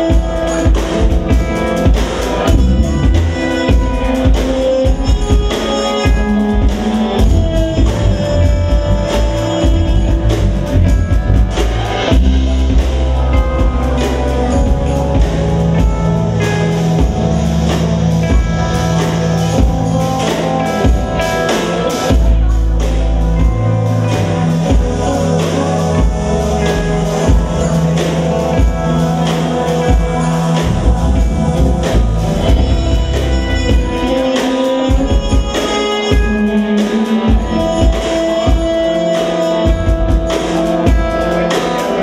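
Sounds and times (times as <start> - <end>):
jazz fusion band playing: 0.0 - 42.0.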